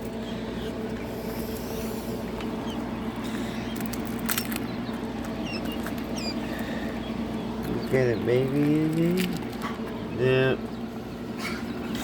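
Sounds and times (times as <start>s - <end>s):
chicks peeping: 0.0s - 12.0s
incubator humming: 0.0s - 12.0s.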